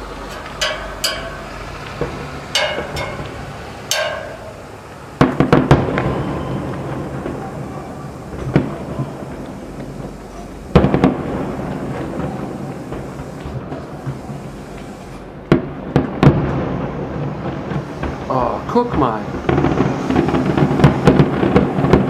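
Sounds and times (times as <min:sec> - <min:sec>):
firework shells bursting: 0:00.0 - 0:18.3, 0:19.1 - 0:22.0
rumble after firework bangs: 0:00.0 - 0:22.0.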